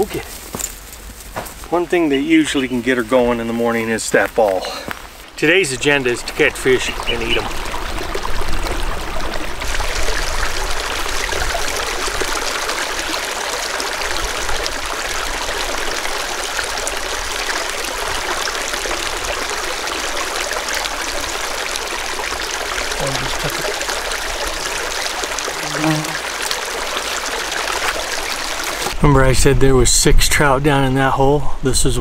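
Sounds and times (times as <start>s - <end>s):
creek water trickling over rocks: 1.7s - 29.0s.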